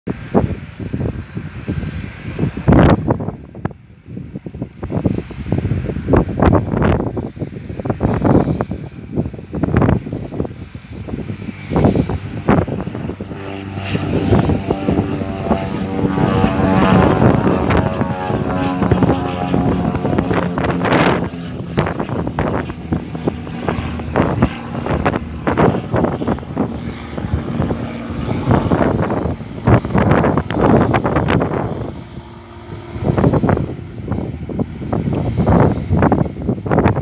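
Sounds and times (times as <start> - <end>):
propeller plane passing overhead: 0.0 - 37.0
wind thumps on microphone: 0.1 - 37.0.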